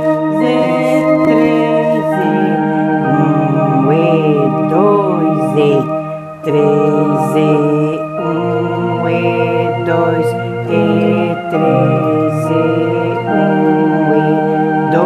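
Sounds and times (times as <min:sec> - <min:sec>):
electronic organ playing hymn: 0:00.0 - 0:15.0.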